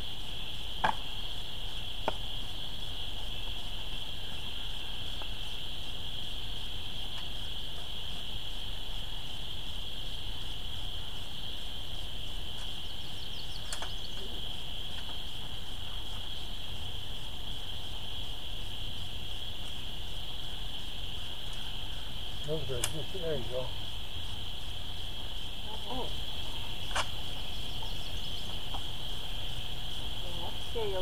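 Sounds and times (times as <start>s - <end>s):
chorus of distant frogs: 0.0s - 31.0s.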